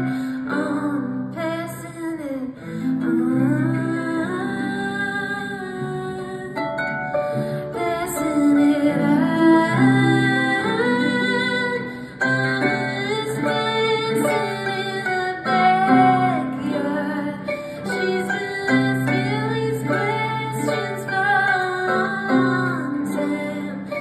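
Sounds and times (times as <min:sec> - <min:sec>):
woman singing: 0:00.0 - 0:24.0.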